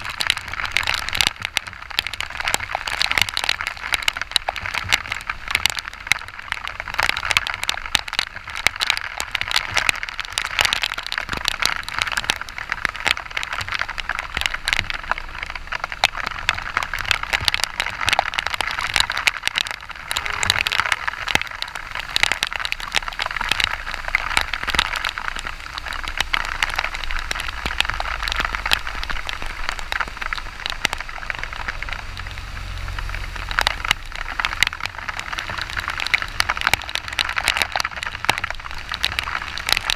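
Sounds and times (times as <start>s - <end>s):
heavy rain on microphone: 0.0s - 39.9s.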